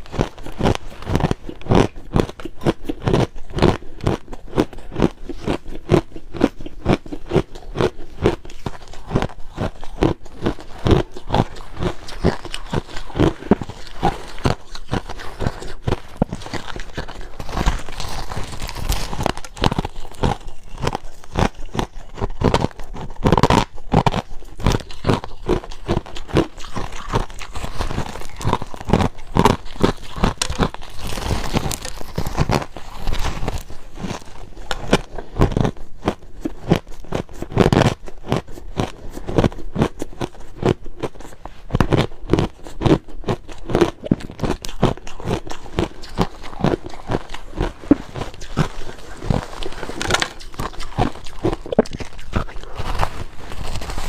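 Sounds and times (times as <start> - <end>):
chewing crushed ice: 0.0 - 54.0.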